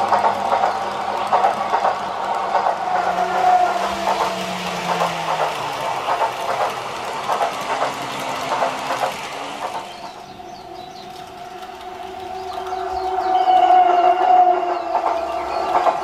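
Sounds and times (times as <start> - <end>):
wheels clattering over rail joints: 0.0 - 13.3, 14.2 - 16.0.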